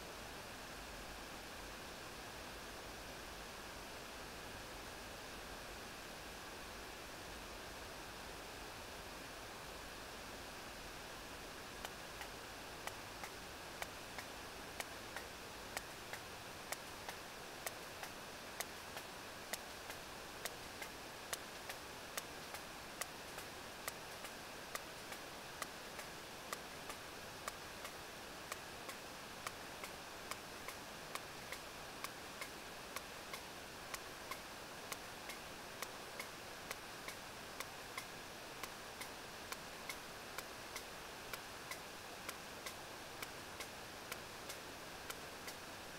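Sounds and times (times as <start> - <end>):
sea and hydrophone hiss: 0.0 - 45.9.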